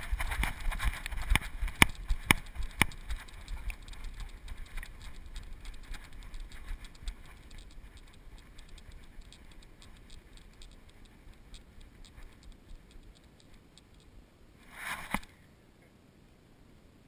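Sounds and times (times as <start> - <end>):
low rumble of movement: 0.0 - 14.4
light ticks and small rattles: 0.0 - 14.7.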